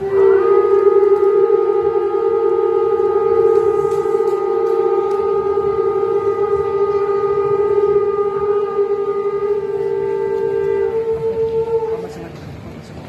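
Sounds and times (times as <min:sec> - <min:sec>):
horns blowing long blast: 0:00.0 - 0:12.6.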